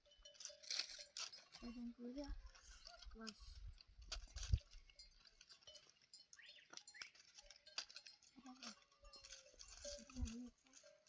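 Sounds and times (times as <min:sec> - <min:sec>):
faint flock of sheep and goats: 0:00.0 - 0:11.0
small clicks and clinks: 0:00.0 - 0:11.0.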